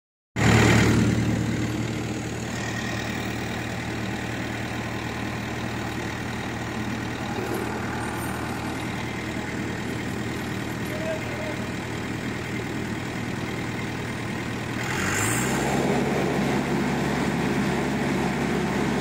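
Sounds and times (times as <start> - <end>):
combine harvester diesel engine: 0.4 - 19.0.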